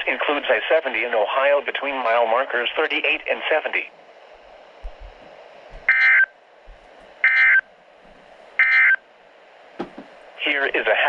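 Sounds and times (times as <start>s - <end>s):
buzzy data tone bursts: 0.0s - 11.0s.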